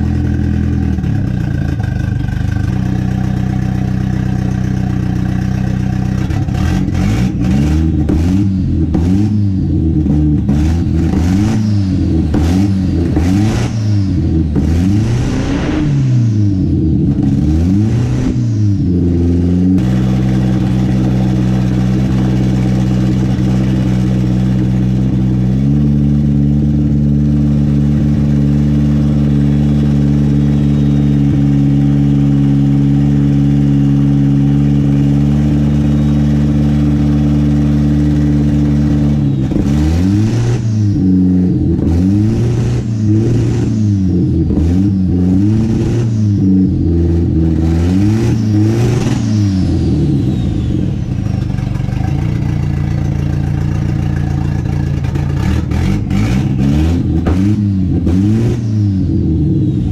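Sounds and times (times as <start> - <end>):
turbocharged car engine revving: 0.0 - 59.9.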